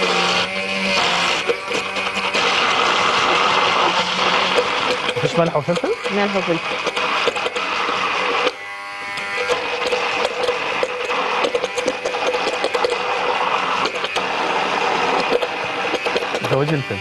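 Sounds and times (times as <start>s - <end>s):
immersion blender whirring: 0.0s - 17.0s.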